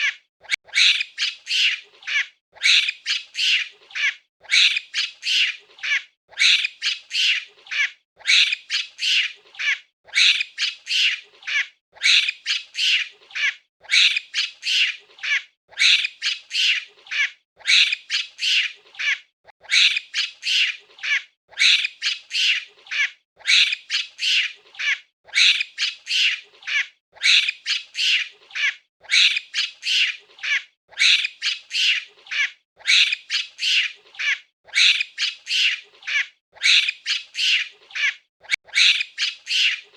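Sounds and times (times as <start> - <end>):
monkey chattering: 0.0 - 39.9.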